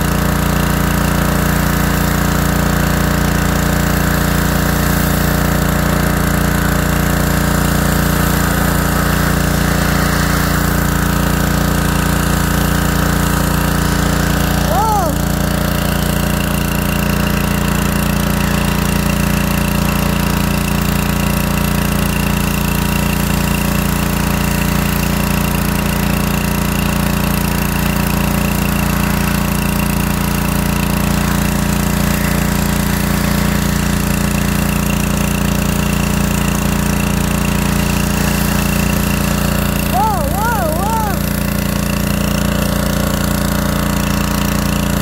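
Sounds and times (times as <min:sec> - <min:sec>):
pressure washer engine running: 0:00.0 - 0:45.0.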